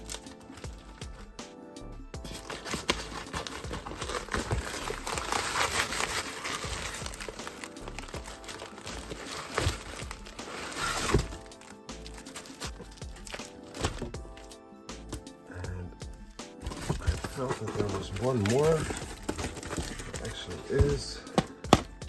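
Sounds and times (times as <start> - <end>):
packing material crumpling: 0.0 - 1.1, 2.2 - 14.2, 16.7 - 21.8
background music: 0.0 - 22.0.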